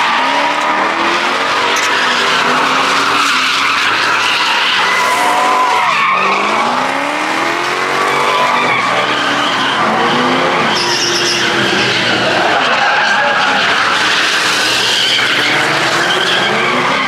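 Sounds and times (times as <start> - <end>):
truck engine revving: 0.0 - 17.0
tyres screeching on asphalt: 0.0 - 17.0.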